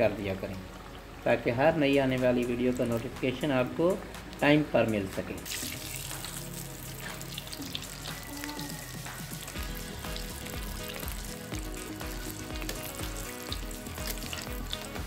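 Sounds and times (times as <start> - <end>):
hot oil sizzling: 0.0 - 15.0
background music with steady beat: 1.0 - 15.0.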